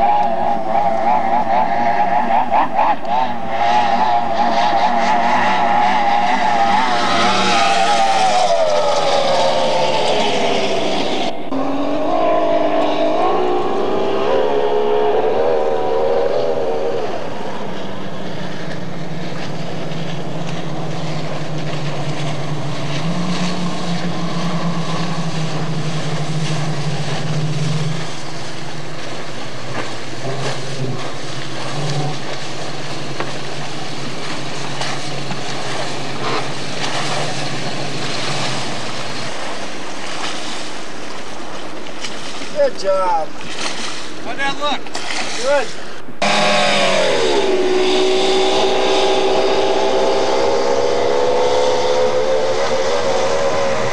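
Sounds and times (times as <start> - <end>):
boat outboard engines at high revs: 0.0 - 53.9.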